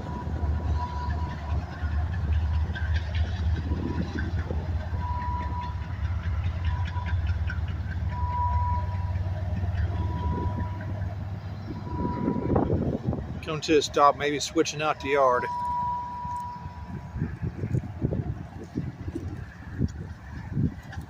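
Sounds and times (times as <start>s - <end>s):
freight train rumble: 0.0s - 21.0s
train cars clanking and rattling: 0.0s - 21.0s.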